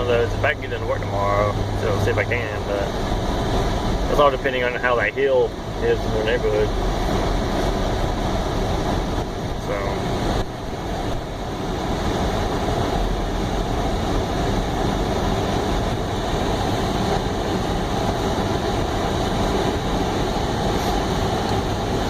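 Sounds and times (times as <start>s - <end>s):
car road noise while driving: 0.0s - 22.0s.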